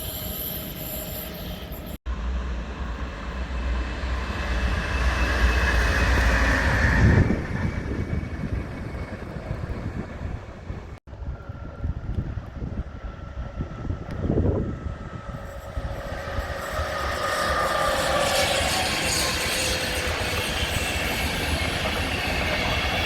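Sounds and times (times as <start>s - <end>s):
train passing on rails: 0.0s - 23.0s.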